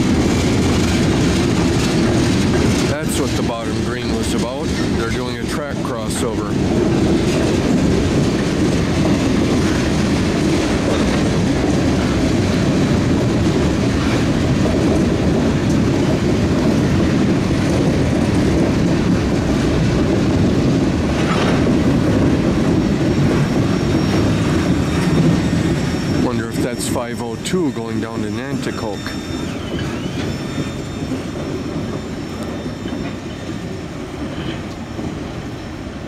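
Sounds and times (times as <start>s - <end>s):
freight train rumbling past: 0.0s - 36.0s
wheels clacking over rail joints: 0.0s - 36.0s.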